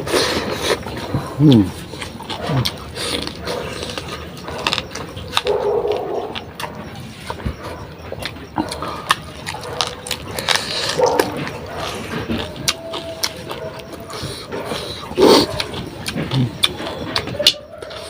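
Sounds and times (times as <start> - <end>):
wet chewing and lip smacks: 0.0 - 18.0.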